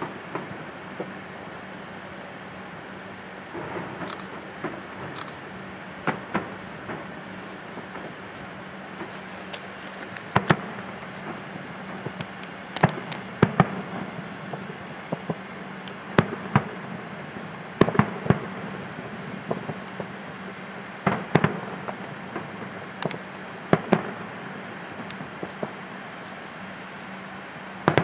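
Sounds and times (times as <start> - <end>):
distant fireworks bangs: 0.0 - 28.0.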